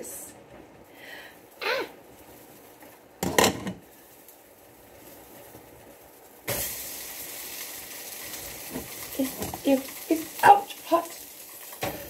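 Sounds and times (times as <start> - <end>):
patties sizzling in a pan: 1.0 - 12.0.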